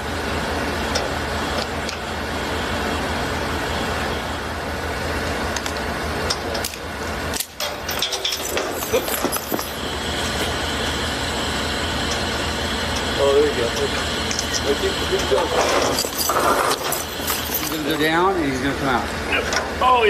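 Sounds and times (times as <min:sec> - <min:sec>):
motor vehicle rumble: 0:00.0 - 0:20.0.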